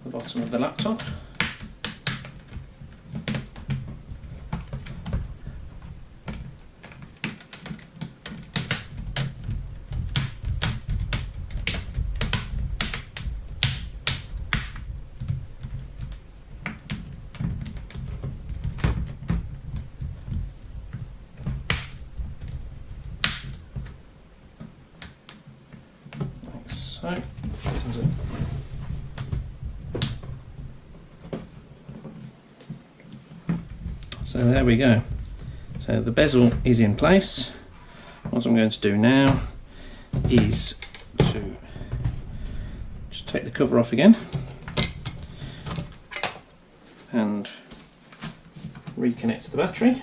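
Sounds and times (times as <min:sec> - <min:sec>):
low rumble of handling: 0:00.0 - 0:47.1.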